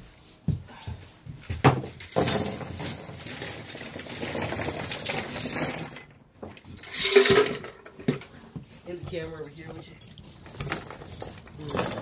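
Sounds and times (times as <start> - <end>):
small metal parts clattering: 1.8 - 12.0.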